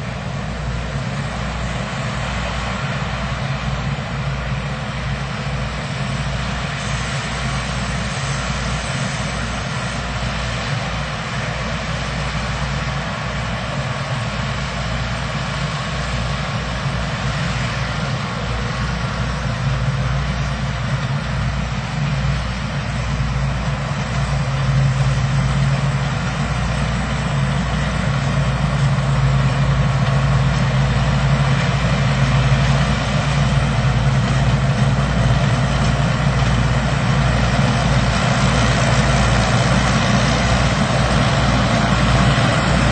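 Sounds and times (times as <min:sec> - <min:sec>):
broad even rushing noise: 0:00.0 - 0:42.9
low engine drone: 0:00.0 - 0:42.9.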